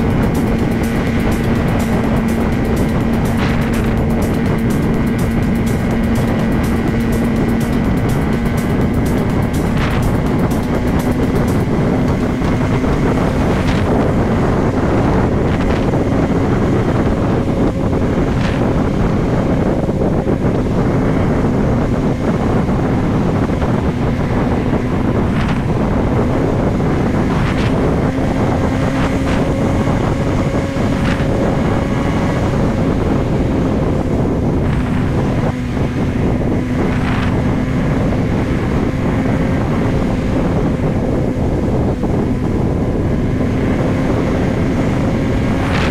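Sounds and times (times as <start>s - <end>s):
motorcycle engine cruising: 0.0s - 45.9s
wind noise on microphone: 0.0s - 45.9s.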